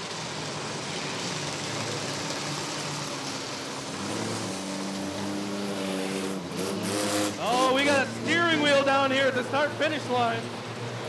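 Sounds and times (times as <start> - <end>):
cars and trucks driving around: 0.0 - 11.0.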